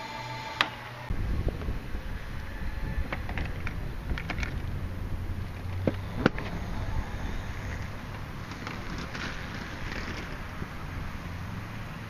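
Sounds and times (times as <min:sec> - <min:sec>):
low street rumble: 0:01.1 - 0:12.0.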